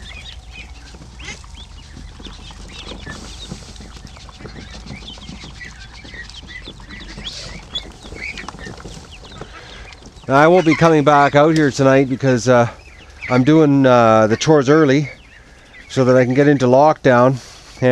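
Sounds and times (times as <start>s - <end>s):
ducklings peeping: 0.0s - 17.9s.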